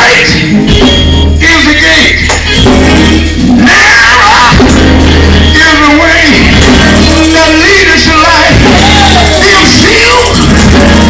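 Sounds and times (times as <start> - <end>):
band playing: 0.0 - 11.0
steady low bass: 0.2 - 3.7, 4.5 - 11.0
voices singing: 1.8 - 11.0.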